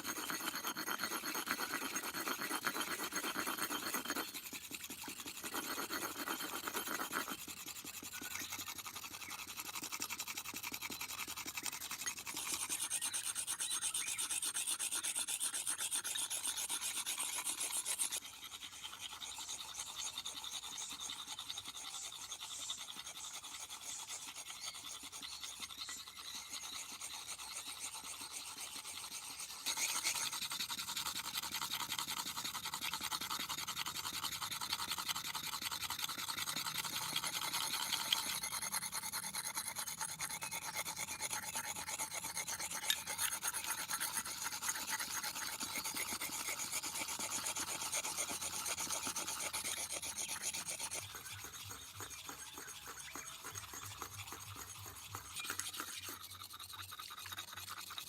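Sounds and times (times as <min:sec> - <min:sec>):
rasping hand scraping strokes: 0:00.0 - 0:58.0.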